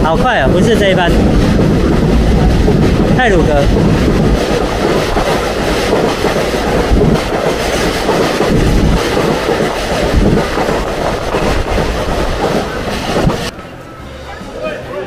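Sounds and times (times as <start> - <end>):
train wheels rumbling on rails: 0.0 - 13.5
train wheel knocks: 0.5 - 13.5.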